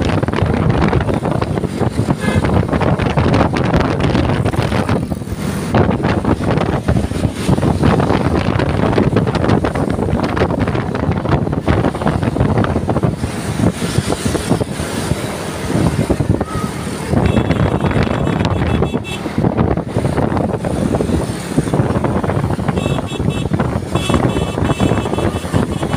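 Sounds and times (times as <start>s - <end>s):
road vehicle noise: 0.0s - 25.9s
wind buffeting microphone: 0.0s - 25.9s.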